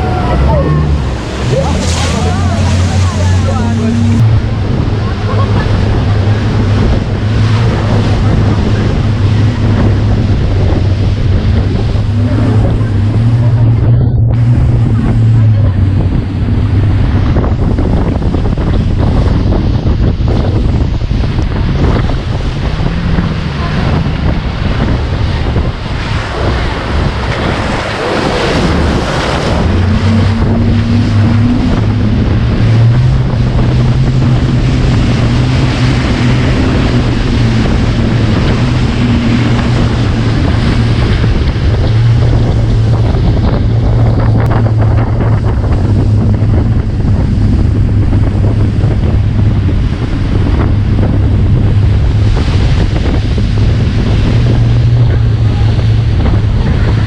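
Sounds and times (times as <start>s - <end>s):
motorboat engine hum: 0.0s - 57.0s
rushing water: 0.0s - 57.0s
wind buffeting microphone: 0.0s - 57.0s.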